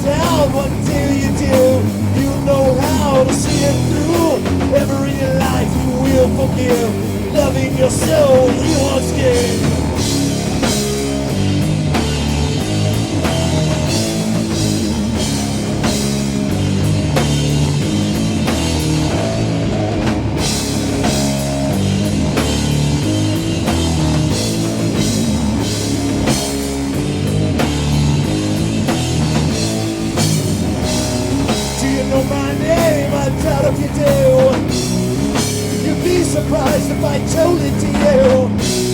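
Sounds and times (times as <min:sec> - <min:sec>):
bass guitar: 0:00.0 - 0:38.9
distorted electric guitar: 0:00.0 - 0:38.9
drum kit steady beat: 0:00.0 - 0:38.9.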